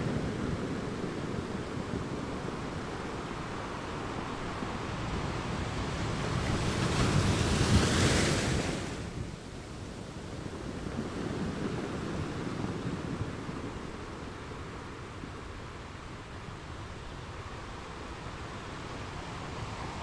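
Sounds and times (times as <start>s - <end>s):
sea surf washing in: 0.0s - 20.0s.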